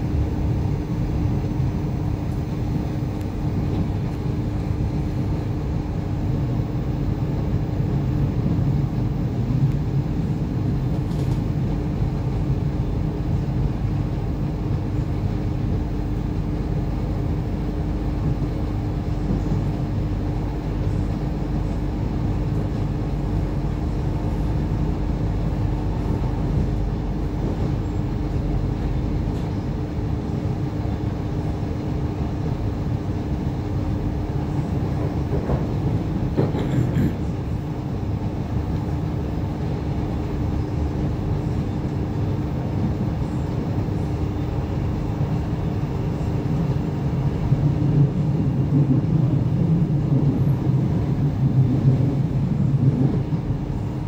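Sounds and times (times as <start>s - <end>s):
train hum: 0.0s - 54.0s
train wheels rumbling on rails: 0.0s - 54.0s.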